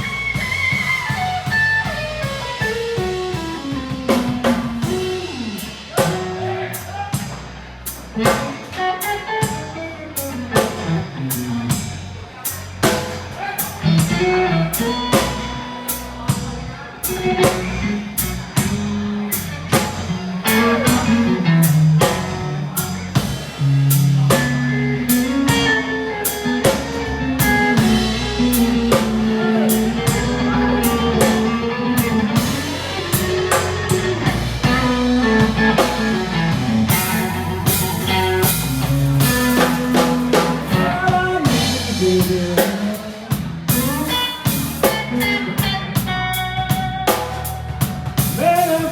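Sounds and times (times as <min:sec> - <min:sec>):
electric guitar lead: 0:00.0 - 0:12.8, 0:13.6 - 0:48.9
bass guitar: 0:00.0 - 0:48.9
drum kit: 0:00.0 - 0:48.9.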